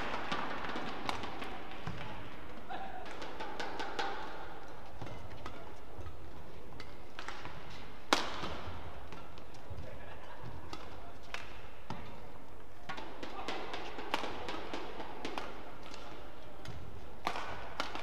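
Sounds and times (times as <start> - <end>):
murmur of the hall: 0.0 - 18.0
rackets striking shuttlecock: 0.0 - 18.0.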